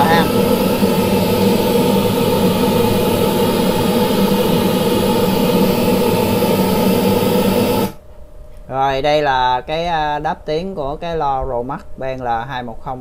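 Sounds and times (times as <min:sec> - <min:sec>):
steady pink noise: 0:00.0 - 0:08.0, 0:08.6 - 0:13.0.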